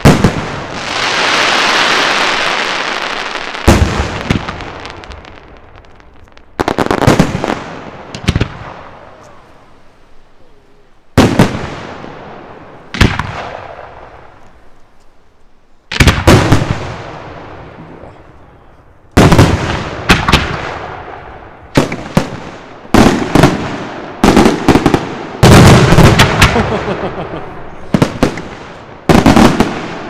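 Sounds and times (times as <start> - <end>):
firework shells booming with echo: 0.0 - 3.0, 3.6 - 9.8, 11.0 - 14.8, 15.9 - 30.0.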